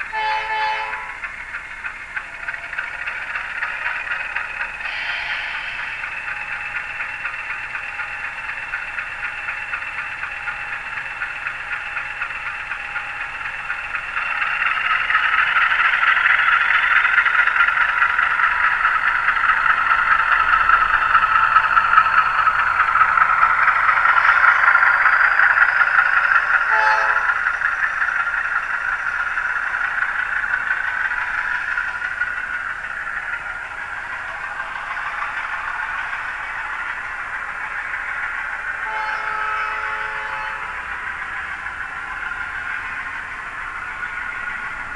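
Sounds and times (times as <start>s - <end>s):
diesel engine sound from small speaker: 0.0s - 44.9s.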